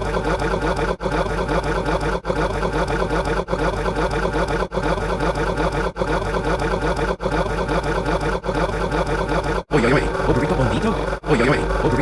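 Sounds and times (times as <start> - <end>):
mechanical buzzing: 0.0 - 12.0.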